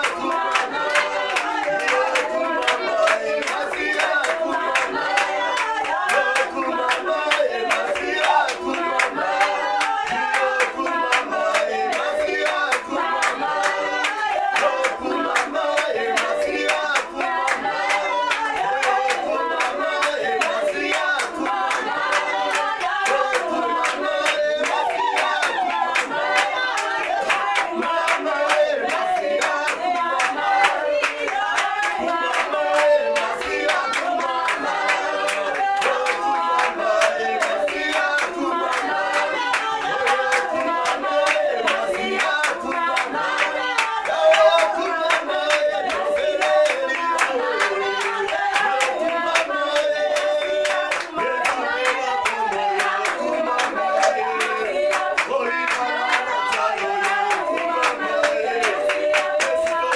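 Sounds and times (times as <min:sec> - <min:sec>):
congregation singing: 0:00.0 - 0:59.9
rhythmic hand clapping: 0:00.0 - 0:59.9.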